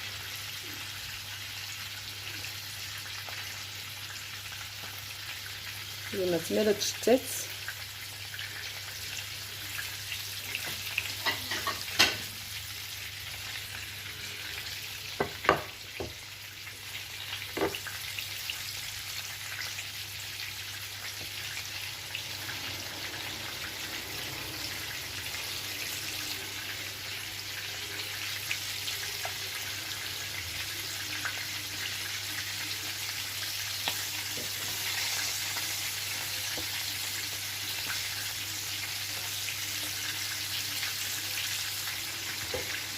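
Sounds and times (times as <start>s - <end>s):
fish sizzling in hot oil: 0.0s - 42.9s.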